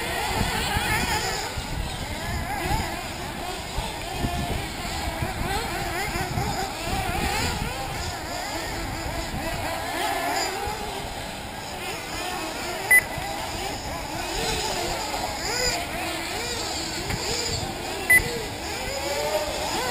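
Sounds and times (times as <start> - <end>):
rc buggy engines revving: 0.0 - 19.9.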